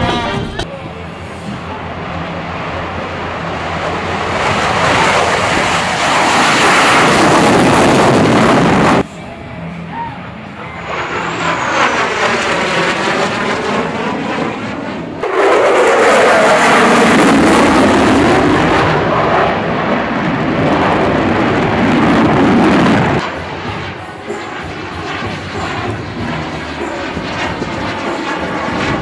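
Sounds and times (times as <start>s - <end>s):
fighter jet roar: 0.0s - 29.0s
jet whooshing past: 1.3s - 9.8s, 10.4s - 29.0s.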